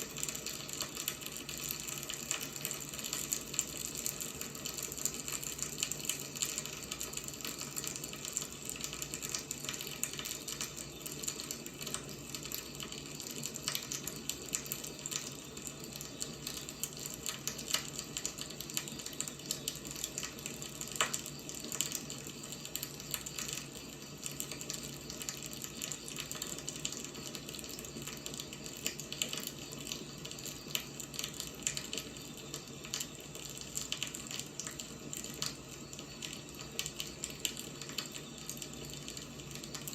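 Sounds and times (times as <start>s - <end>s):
firewood crackling and popping: 0.0s - 39.9s
steady hiss: 0.0s - 39.9s.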